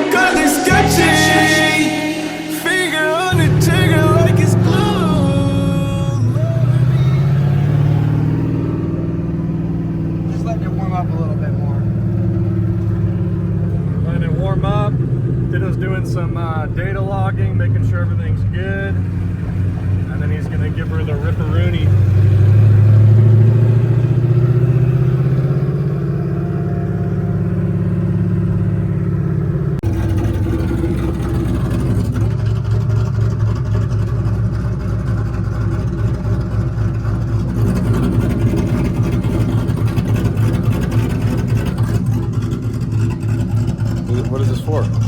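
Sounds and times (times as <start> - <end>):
car engine running: 0.0 - 45.0.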